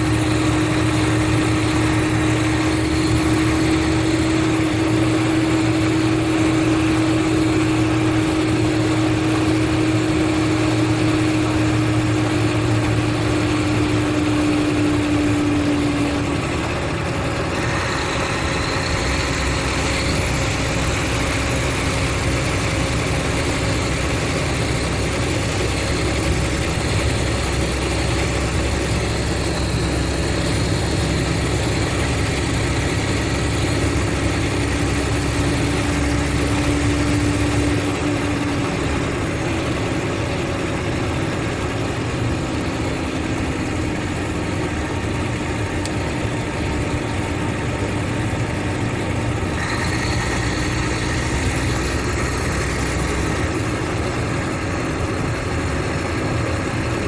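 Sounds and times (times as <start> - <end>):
coach diesel engine drone: 0.0 - 57.0.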